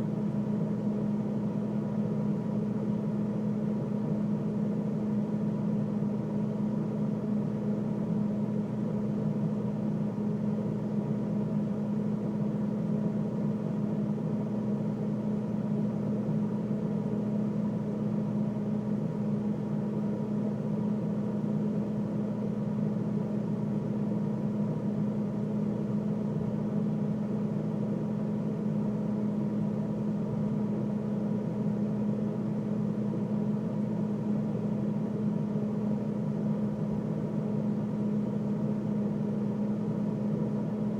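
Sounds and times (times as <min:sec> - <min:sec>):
freezer hum: 0:00.0 - 0:40.9.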